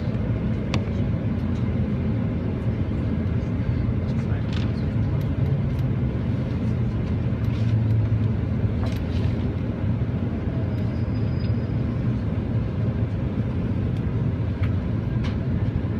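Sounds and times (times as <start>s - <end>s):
train rumbling: 0.0s - 15.9s.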